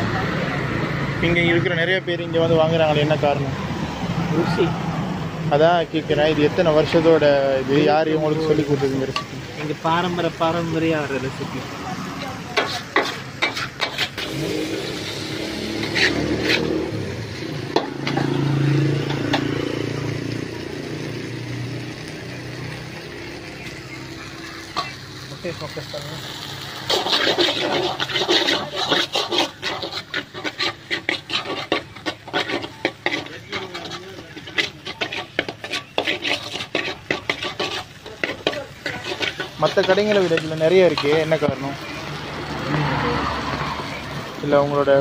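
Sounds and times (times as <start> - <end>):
noodles sizzling in a wok: 2.3 - 45.0
metal spatula scraping a wok: 5.6 - 21.0, 21.9 - 45.0.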